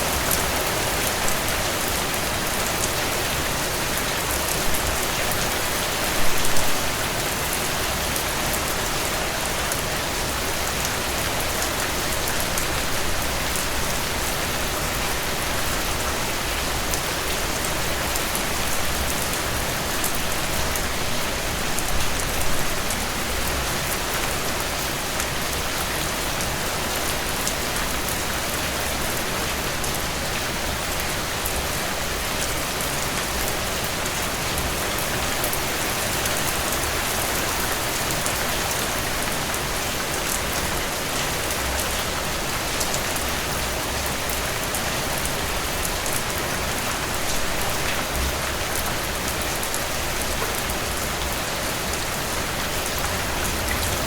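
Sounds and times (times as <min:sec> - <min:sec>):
heavy rain on a porch: 0:00.0 - 0:54.0.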